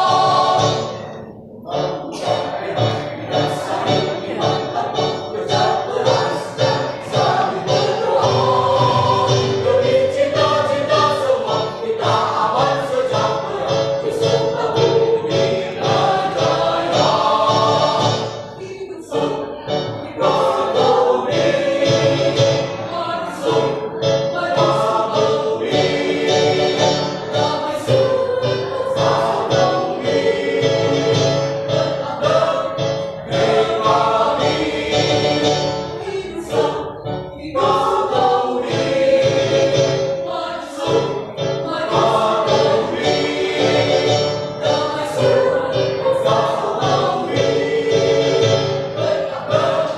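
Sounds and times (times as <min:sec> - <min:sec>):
mixed choir singing: 0:00.0 - 0:49.9.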